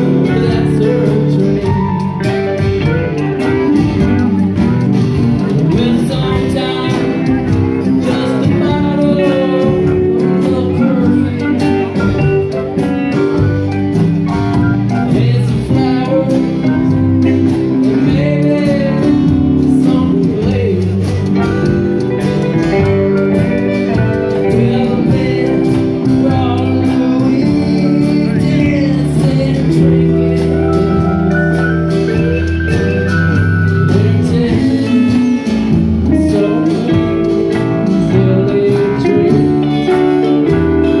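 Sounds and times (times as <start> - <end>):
live band playing: 0.0 - 41.0
person singing: 0.0 - 41.0.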